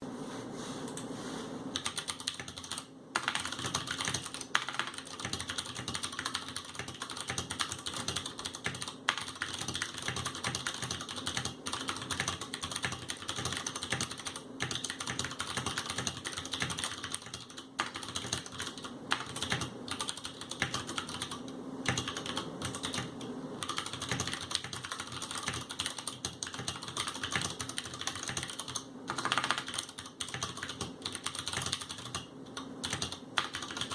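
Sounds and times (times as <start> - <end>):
fast typing on mechanical keyboard: 1.8 - 33.9.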